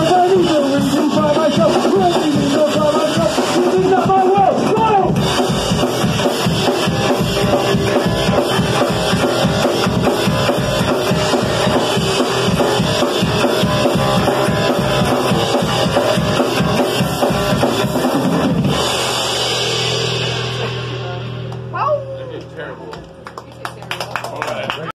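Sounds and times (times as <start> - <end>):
drum kit: 0.0 - 24.8
rock band playing: 0.0 - 24.8.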